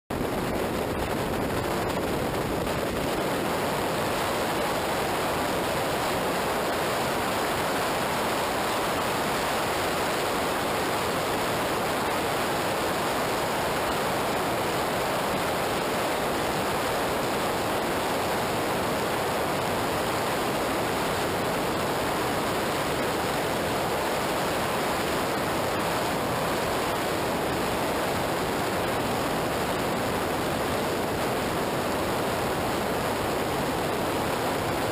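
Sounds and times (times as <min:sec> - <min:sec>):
rushing wind: 0:00.1 - 0:34.9.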